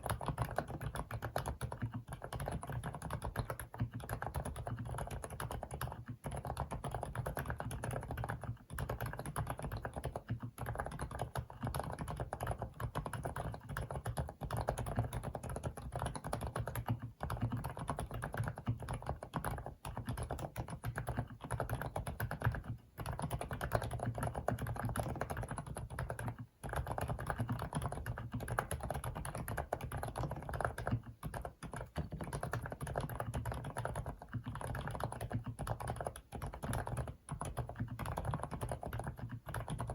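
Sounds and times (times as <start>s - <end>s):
muffled keyboard typing: 0.0s - 39.9s.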